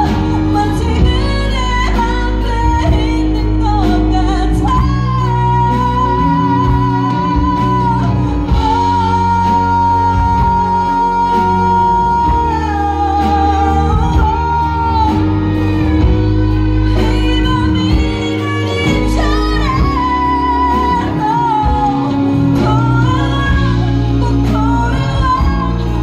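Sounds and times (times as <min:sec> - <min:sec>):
band playing: 0:00.0 - 0:26.0
woman singing a ballad: 0:00.0 - 0:26.0.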